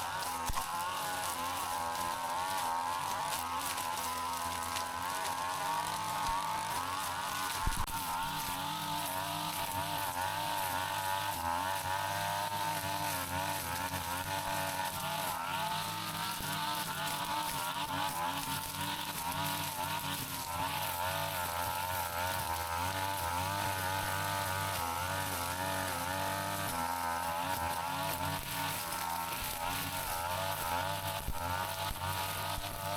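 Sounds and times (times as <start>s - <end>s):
brush cutter engine running: 0.0s - 32.9s.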